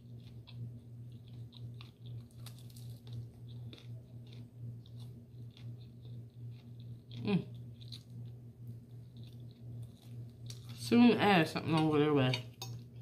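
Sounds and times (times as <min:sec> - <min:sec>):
chewing food: 0:00.0 - 0:11.1
steady low hum: 0:00.0 - 0:13.0.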